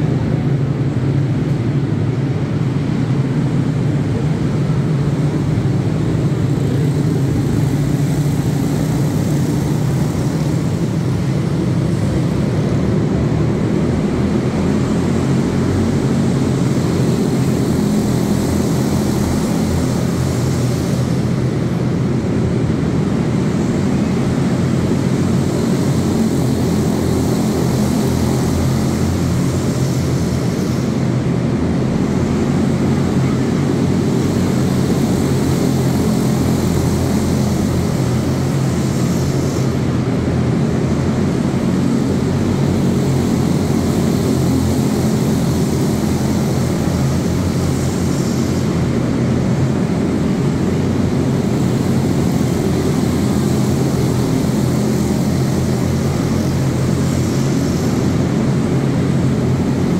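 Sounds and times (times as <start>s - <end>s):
small race car engines buzzing: 0.0s - 59.9s.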